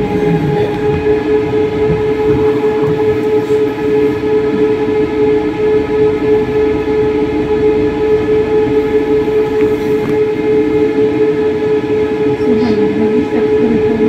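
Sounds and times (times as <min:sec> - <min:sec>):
electric tram whine: 0:00.0 - 0:14.0
wheels rumbling on rails: 0:00.0 - 0:14.0.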